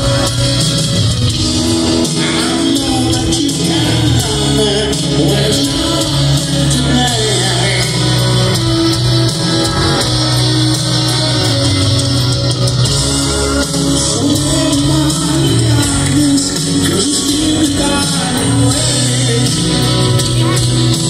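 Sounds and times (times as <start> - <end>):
electric guitar: 0.0 - 21.0
live rock band playing: 0.0 - 21.0
piano: 0.0 - 21.0.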